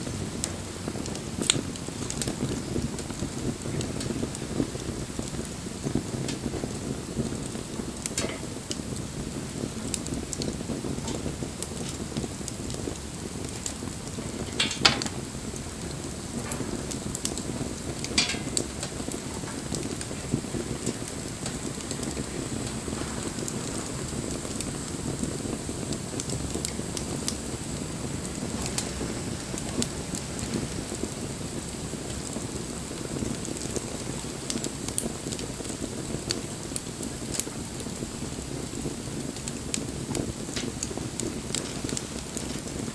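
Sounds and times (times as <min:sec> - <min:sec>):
fire crackling and popping: 0:00.0 - 0:42.9
wood fire flames rushing: 0:00.0 - 0:42.9.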